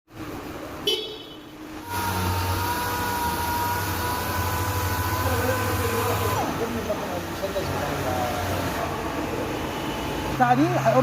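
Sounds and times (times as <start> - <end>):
motor humming and whining: 1.7 - 11.0.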